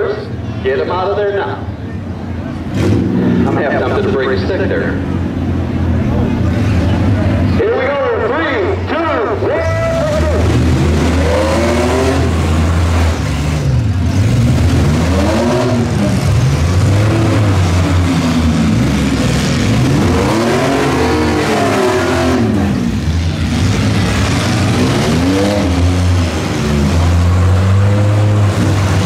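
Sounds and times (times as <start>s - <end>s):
engines revving: 0.0s - 29.0s.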